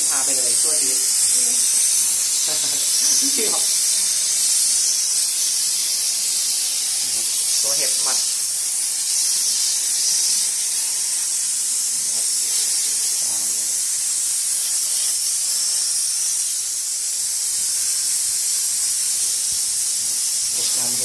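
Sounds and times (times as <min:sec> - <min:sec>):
steam hissing from nozzle: 0:00.0 - 0:21.0.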